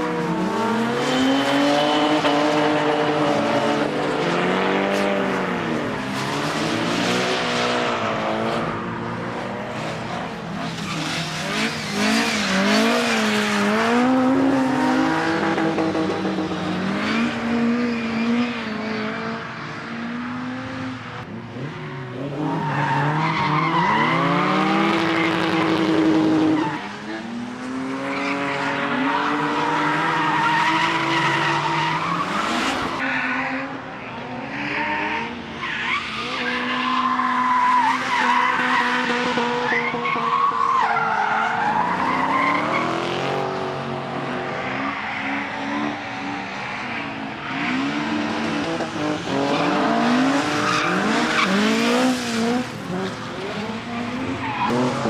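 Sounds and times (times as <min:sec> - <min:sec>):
tyre squeal and skidding: 0:00.0 - 0:04.4, 0:09.8 - 0:15.4, 0:16.2 - 0:19.8, 0:21.8 - 0:33.6, 0:34.5 - 0:43.2, 0:44.7 - 0:55.0
race car engines revving: 0:00.0 - 0:55.0.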